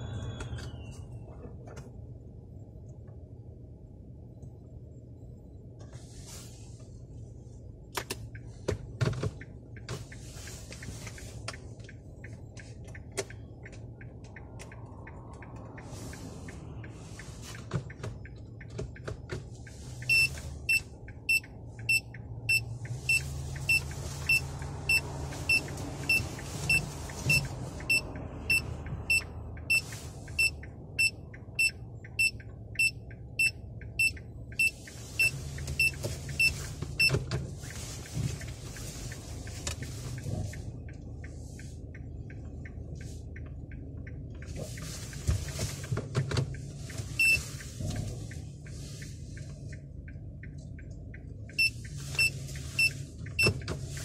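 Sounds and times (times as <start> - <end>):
car engine humming: 0.0 - 54.0
turn signal ticking: 0.0 - 54.0.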